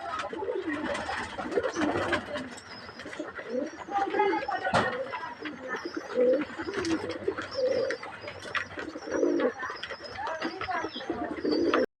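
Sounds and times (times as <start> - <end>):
pigeons cooing: 0.0 - 11.9.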